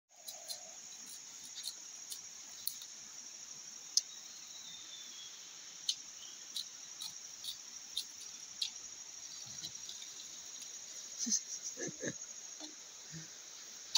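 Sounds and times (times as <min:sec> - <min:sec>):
insects droning: 0:00.1 - 0:13.9.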